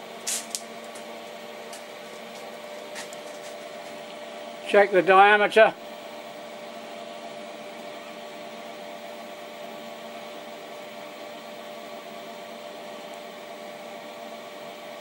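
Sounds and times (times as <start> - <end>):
lathe motor whirring hum: 0.0 - 15.0.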